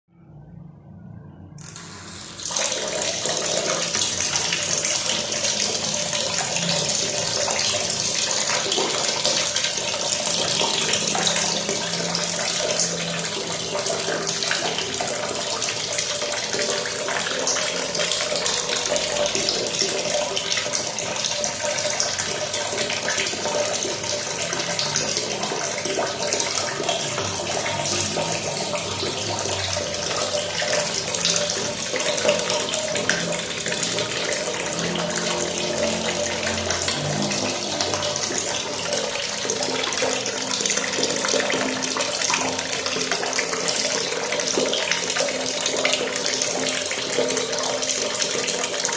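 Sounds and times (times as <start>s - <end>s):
running water pouring: 1.6s - 48.9s.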